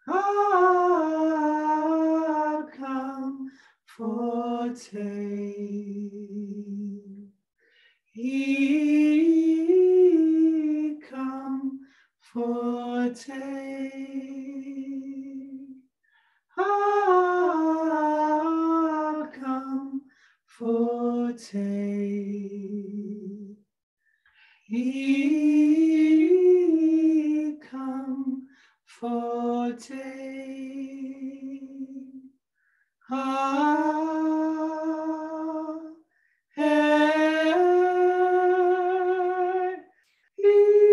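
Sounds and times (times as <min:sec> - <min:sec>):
woman and man singing a cappella: 0:00.0 - 0:07.3, 0:08.1 - 0:15.8, 0:16.5 - 0:23.6, 0:24.6 - 0:32.3, 0:33.0 - 0:40.9.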